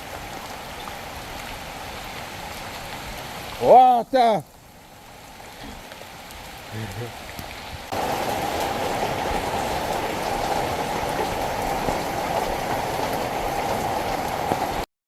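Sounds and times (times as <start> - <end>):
heavy rain rushing: 0.0 - 14.9.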